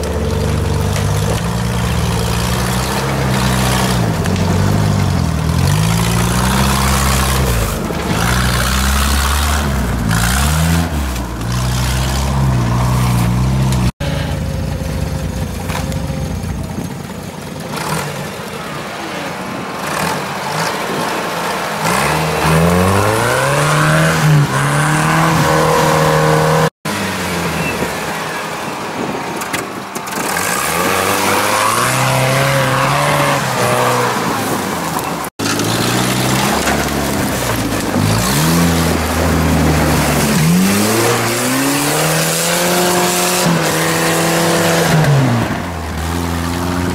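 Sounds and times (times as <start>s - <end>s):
off-road vehicle engines revving: 0.0s - 46.9s.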